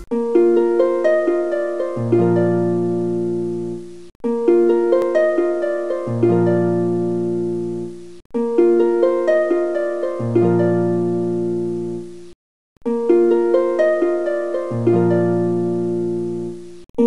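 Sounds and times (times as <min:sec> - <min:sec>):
plucked harp-like melody: 0:00.0 - 0:16.8.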